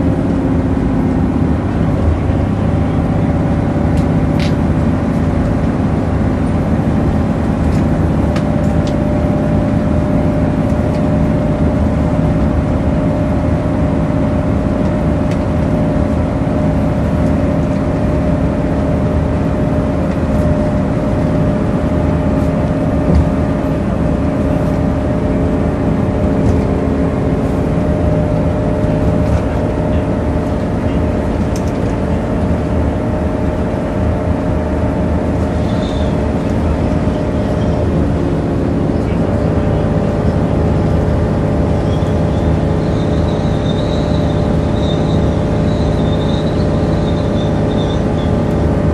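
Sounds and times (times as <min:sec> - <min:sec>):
bus engine drone: 0:00.0 - 0:48.9
high even whine: 0:00.0 - 0:48.9.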